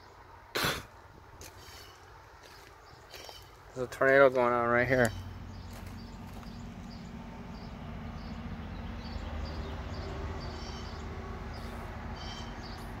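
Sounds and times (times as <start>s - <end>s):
small birds chirping: 1.4s - 13.0s.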